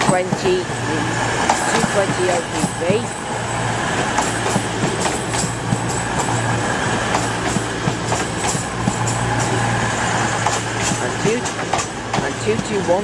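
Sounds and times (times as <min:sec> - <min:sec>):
diesel engines humming: 0:00.0 - 0:13.0
train wheels clicking over rail joints: 0:00.0 - 0:13.0.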